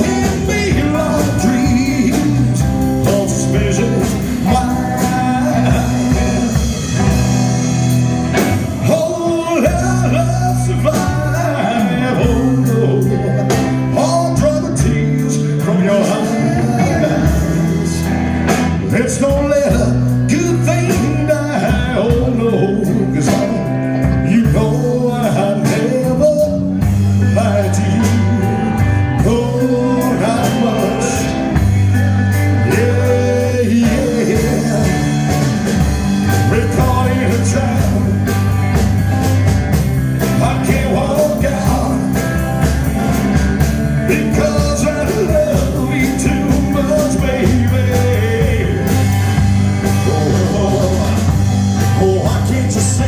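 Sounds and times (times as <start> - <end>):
band playing rock and roll: 0.0 - 53.0
bending lead guitar line: 0.0 - 53.0
steady bass line: 0.0 - 53.0.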